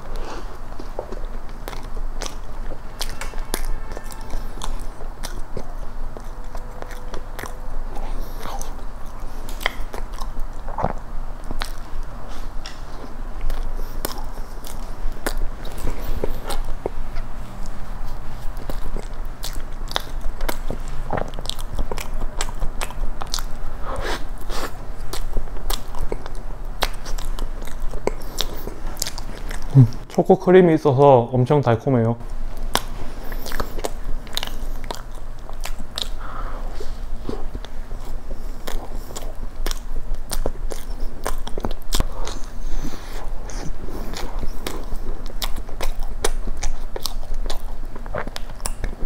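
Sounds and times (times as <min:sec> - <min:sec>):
chewing with mouth clicks: 0:00.0 - 0:30.4, 0:32.2 - 0:49.0.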